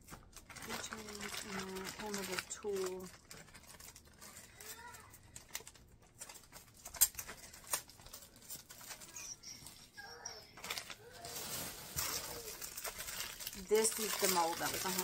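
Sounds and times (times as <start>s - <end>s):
plastic packaging rustling: 0.0s - 15.0s.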